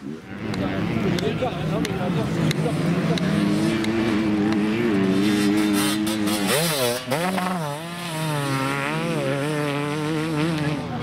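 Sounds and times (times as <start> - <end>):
motorcycle engine running hard: 0.0 - 11.0.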